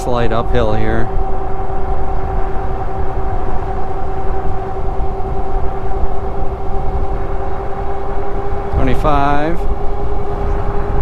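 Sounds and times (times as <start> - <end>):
electric motor whine: 0.0 - 11.0
wind rush on microphone: 0.0 - 11.0.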